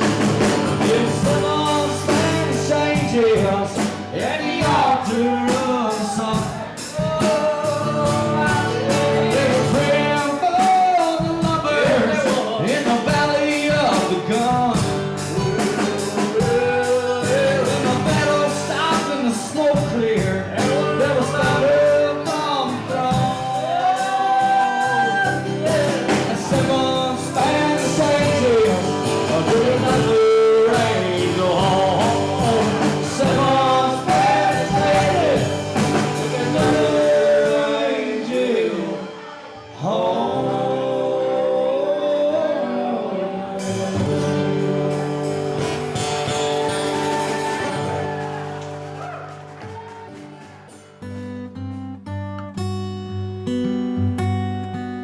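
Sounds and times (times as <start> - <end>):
drum beat: 0.0 - 37.8, 44.0 - 50.9
bass: 0.0 - 38.0, 39.8 - 49.7
person singing: 0.0 - 49.2
guitar: 0.0 - 55.0.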